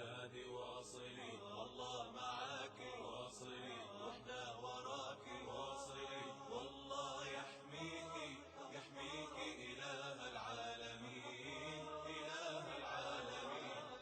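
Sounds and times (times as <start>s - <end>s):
person chanting slow melody: 0.0s - 14.0s.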